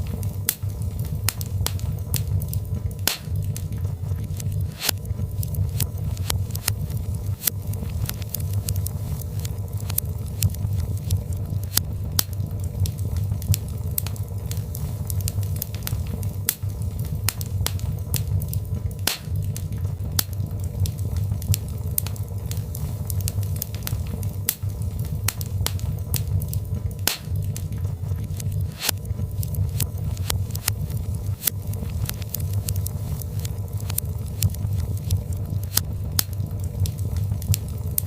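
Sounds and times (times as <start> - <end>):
burning logs crackling and popping: 0.0 - 38.0
low fire rumble: 0.0 - 38.0.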